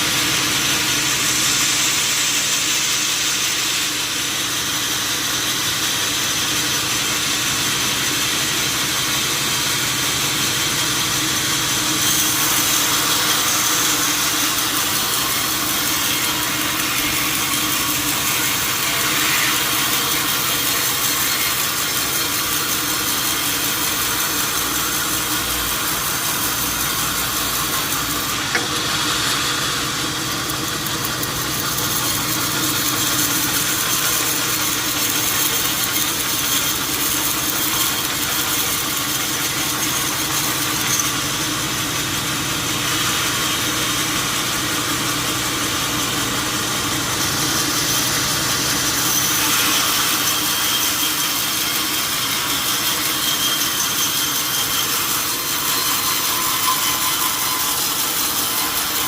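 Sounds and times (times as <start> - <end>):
machine running: 0.0 - 59.0.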